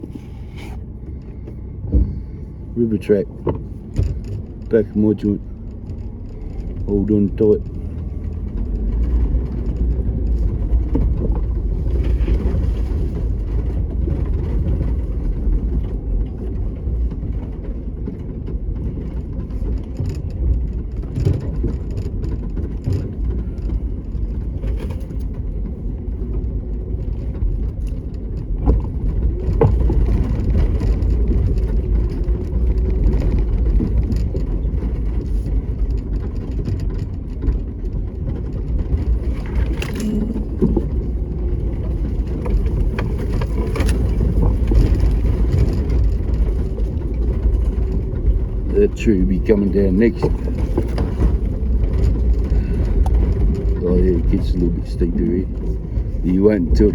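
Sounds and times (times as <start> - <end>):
rattles and knocks: 0.0 - 56.9
vehicle engine and road rumble: 0.0 - 56.9.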